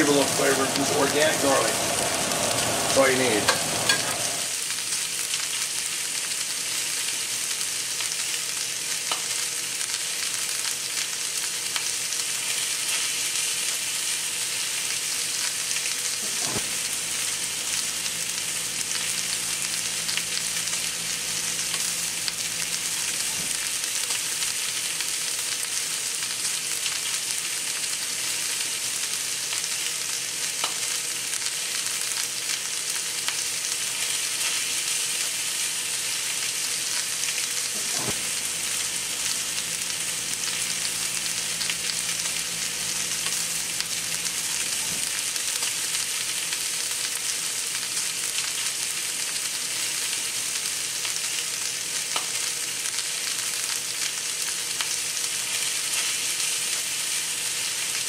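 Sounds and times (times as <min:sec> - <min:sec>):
garlic sizzling in a skillet: 0:00.0 - 0:58.0.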